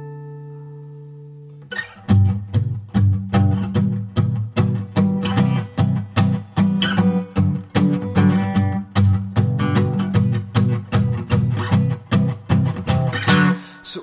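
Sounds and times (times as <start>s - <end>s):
plucked string notes: 0.0s - 14.0s.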